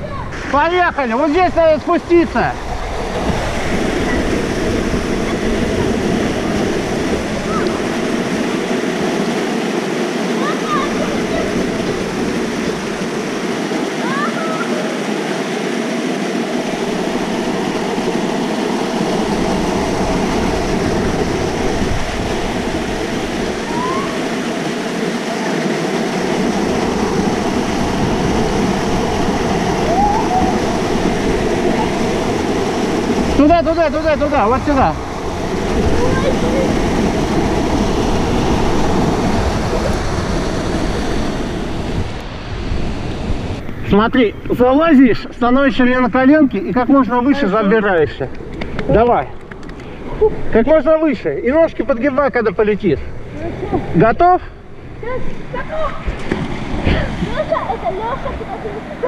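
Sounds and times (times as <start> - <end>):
deep water rumble: 0.0 - 59.0
waterfall rushing over rocks: 0.1 - 49.2.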